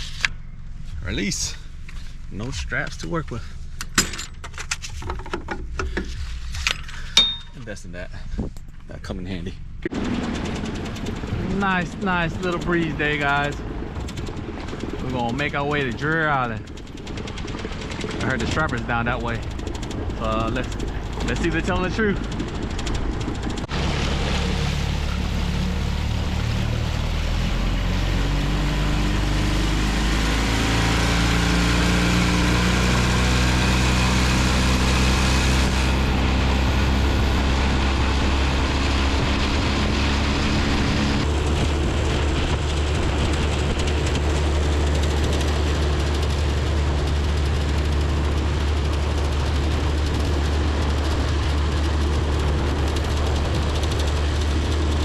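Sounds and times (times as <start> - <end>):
boat motor running: 5.0 - 55.0
rush of wind and water: 10.0 - 55.0.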